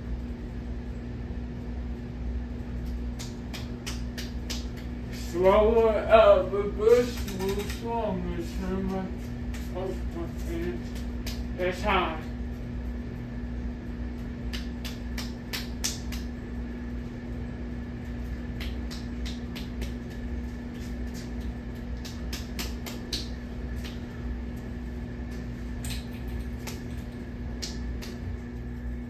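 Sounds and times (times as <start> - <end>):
ceiling fan motor hum: 0.0 - 29.0.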